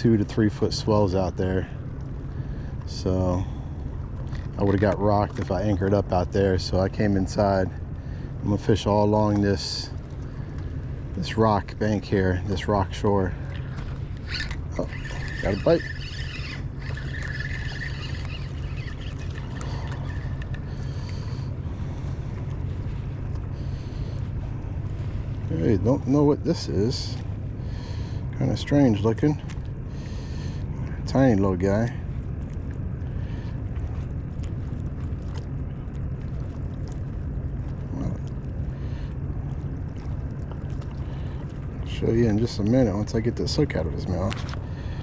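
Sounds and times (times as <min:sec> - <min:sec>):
boat motor humming: 0:00.0 - 0:45.0
water noise: 0:00.0 - 0:45.0
wind: 0:00.0 - 0:45.0.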